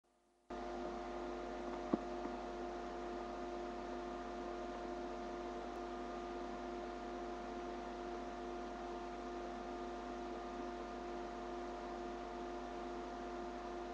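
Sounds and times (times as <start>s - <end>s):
electrical hum and hiss: 0.5s - 13.9s.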